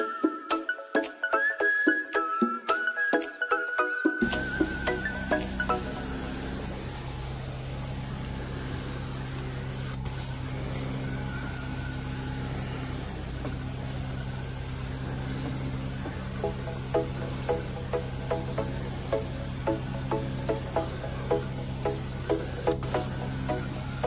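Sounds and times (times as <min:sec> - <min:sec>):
cleaning machine humming: 0:04.2 - 0:24.0
spray wand hissing: 0:04.2 - 0:24.0.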